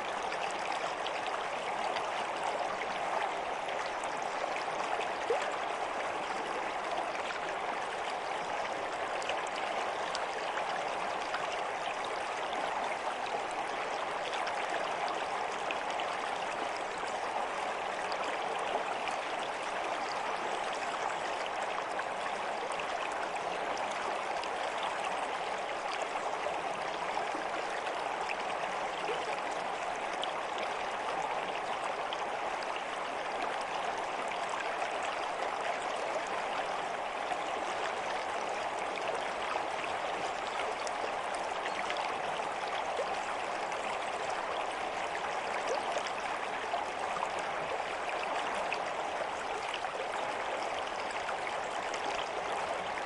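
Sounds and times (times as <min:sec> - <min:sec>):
stream water running: 0:00.0 - 0:53.0
water splashes and trickles: 0:00.0 - 0:53.0.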